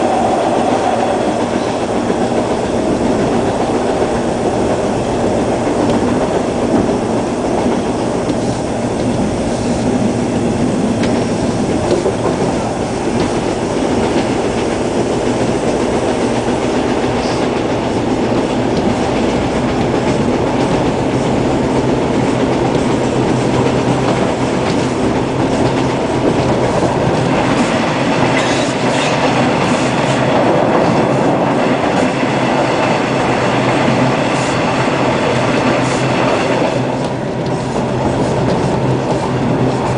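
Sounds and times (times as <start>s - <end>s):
subway car rumbling on rails: 0.0s - 39.9s.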